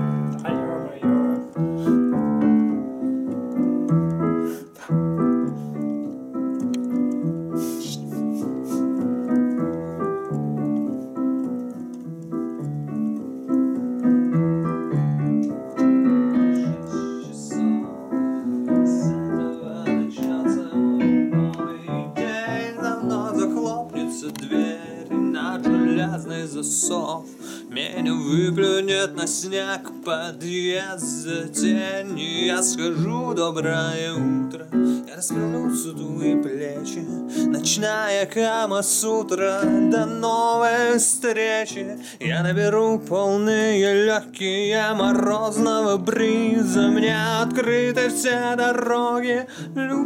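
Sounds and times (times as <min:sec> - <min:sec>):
digital piano chords and melody: 0:00.0 - 0:50.0.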